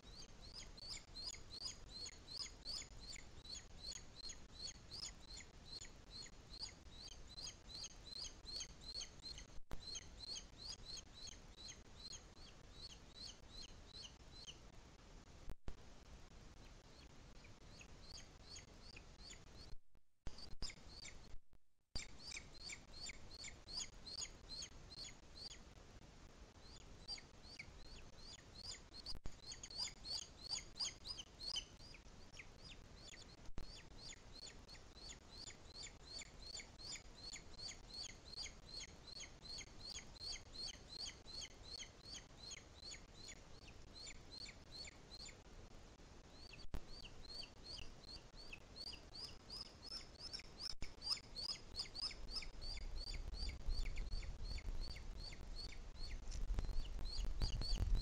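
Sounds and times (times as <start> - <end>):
bird chick chirping: 0.0 - 14.7, 16.6 - 21.4, 22.0 - 25.7, 26.6 - 45.5, 46.2 - 58.0.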